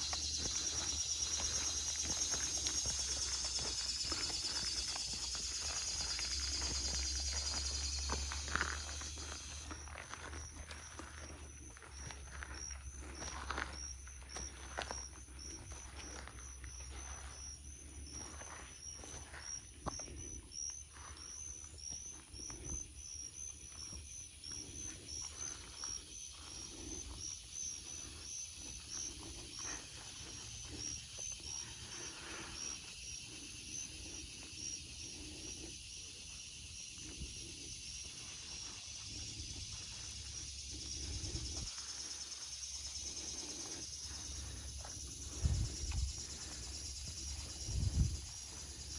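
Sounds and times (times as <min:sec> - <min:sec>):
footsteps through grass and sand: 0:00.0 - 0:48.9
insects chirping and buzzing: 0:00.0 - 0:48.9.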